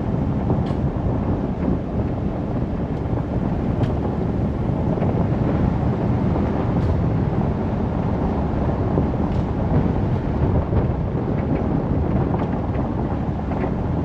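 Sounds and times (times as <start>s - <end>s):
vehicle driving on gravel road: 0.0s - 14.0s.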